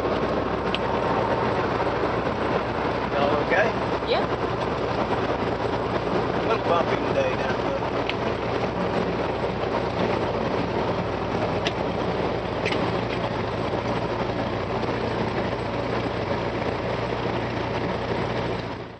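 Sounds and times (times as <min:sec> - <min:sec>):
aircraft piston engine droning: 0:00.0 - 0:18.9.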